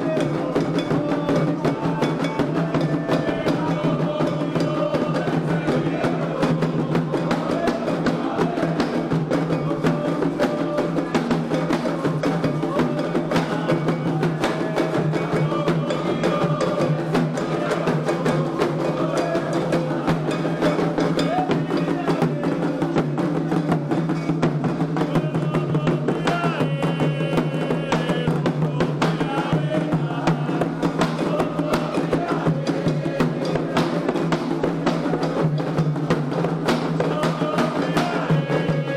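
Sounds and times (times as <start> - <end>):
hand drums playing rhythm: 0.0 - 38.9
voices singing: 0.0 - 38.9.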